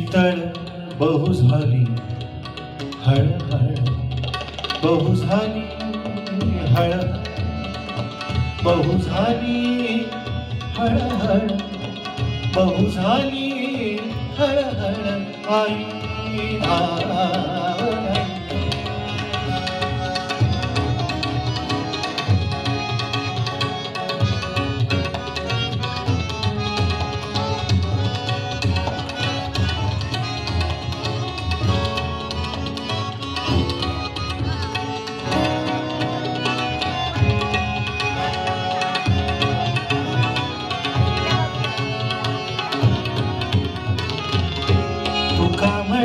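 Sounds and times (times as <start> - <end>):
tabla rhythm: 0.0 - 46.0.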